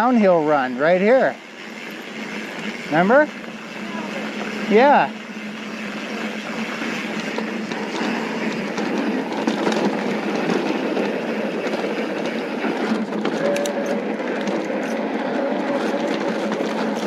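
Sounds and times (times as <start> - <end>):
bike tyres rolling over gravel: 0.0 - 17.0.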